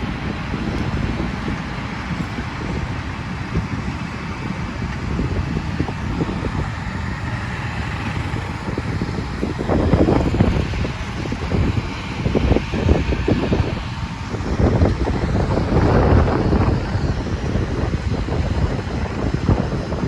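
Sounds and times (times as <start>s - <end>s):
tractors rumbling: 0.0s - 20.0s
wind on microphone: 0.0s - 20.0s.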